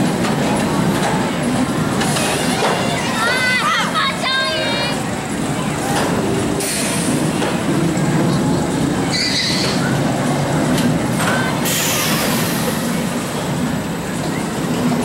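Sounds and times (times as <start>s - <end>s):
roller coaster car rumbling: 0.0s - 15.0s.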